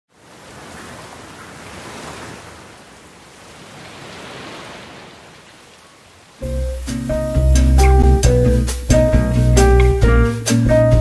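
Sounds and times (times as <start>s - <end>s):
rain falling: 0.1s - 11.0s.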